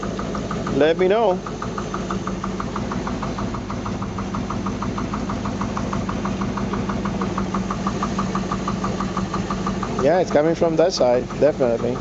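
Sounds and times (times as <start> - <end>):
boat engine idling with knock: 0.0 - 12.0.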